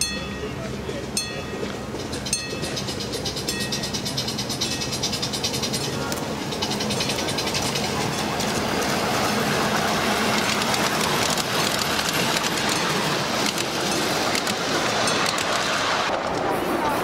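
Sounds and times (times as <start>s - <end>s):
miniature train wheels clattering: 0.0s - 17.0s
steam locomotive running: 0.0s - 17.0s.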